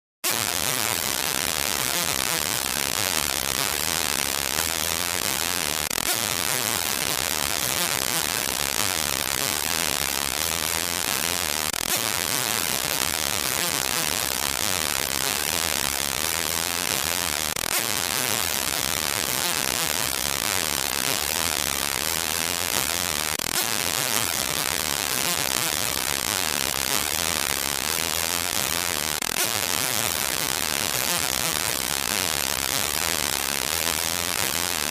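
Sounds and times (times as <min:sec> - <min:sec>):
hissing static: 0:00.2 - 0:34.9.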